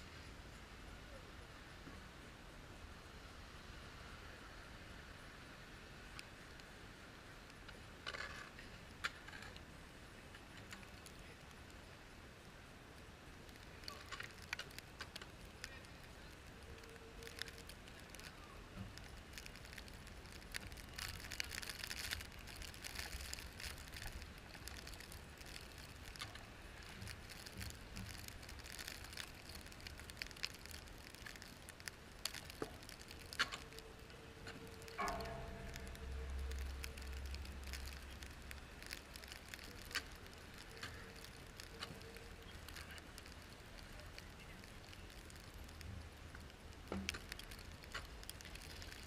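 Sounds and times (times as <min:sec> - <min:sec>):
faint steady hum: 0:00.0 - 0:49.0
crackling and ticking: 0:06.0 - 0:49.0.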